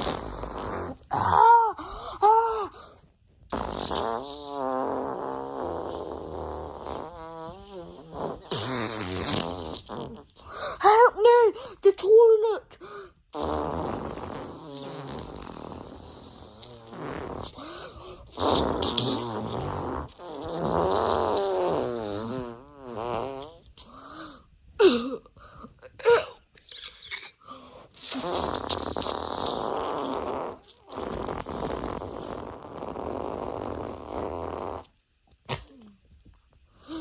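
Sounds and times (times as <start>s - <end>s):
fart noises: 0.0s - 1.6s, 3.4s - 10.7s, 13.3s - 24.0s, 26.0s - 37.0s.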